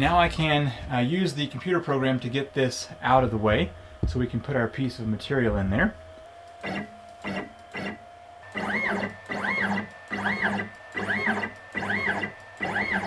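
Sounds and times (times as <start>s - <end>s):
stepper motor ticks: 0.0s - 13.0s
stepper motor whining: 0.0s - 13.0s.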